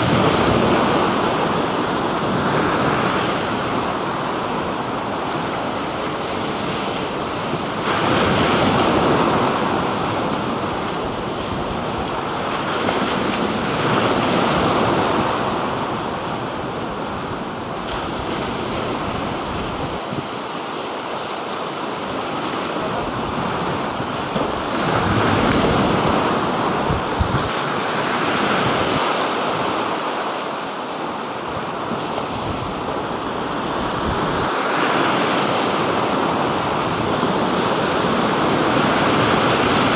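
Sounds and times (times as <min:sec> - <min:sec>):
wind on microphone: 0:00.0 - 0:20.5, 0:22.4 - 0:29.8, 0:31.4 - 0:39.9
waves breaking: 0:00.0 - 0:39.9.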